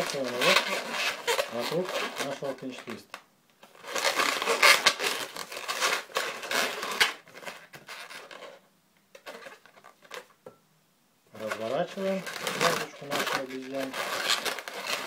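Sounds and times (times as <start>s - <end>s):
balloons rubbing and scraping: 0.0s - 3.0s, 3.6s - 8.6s, 9.2s - 10.4s, 11.3s - 15.0s.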